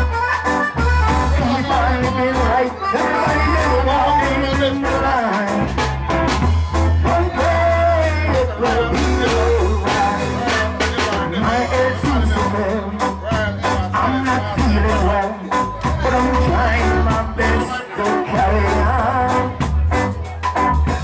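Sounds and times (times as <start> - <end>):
group of voices singing: 1.4 - 20.1.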